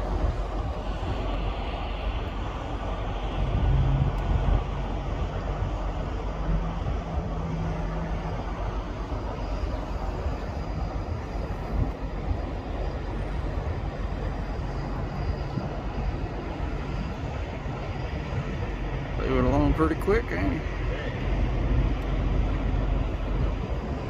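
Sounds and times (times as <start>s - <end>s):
faint hum: 0.0s - 24.0s
low engine rumble: 0.0s - 24.0s
water noise: 0.0s - 24.0s
wind: 0.0s - 24.0s.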